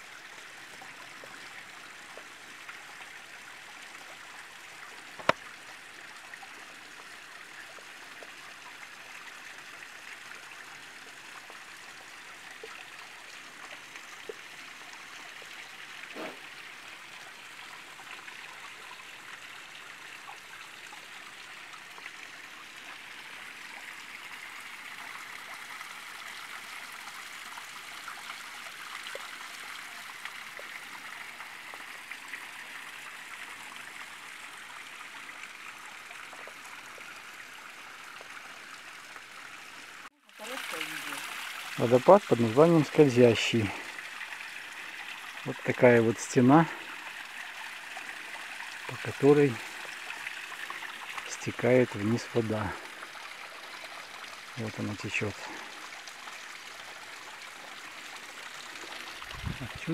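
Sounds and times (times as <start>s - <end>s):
waterfall trickling and splashing: 0.0s - 59.9s.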